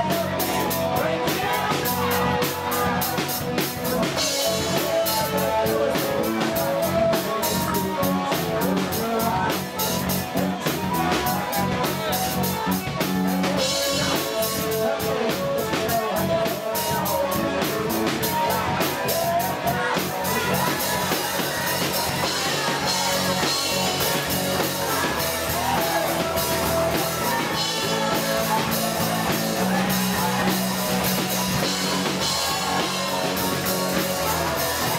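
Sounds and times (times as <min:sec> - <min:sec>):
bass guitar: 0:00.0 - 0:34.9
drum kit beat: 0:00.0 - 0:34.9
electric guitar: 0:00.0 - 0:34.9.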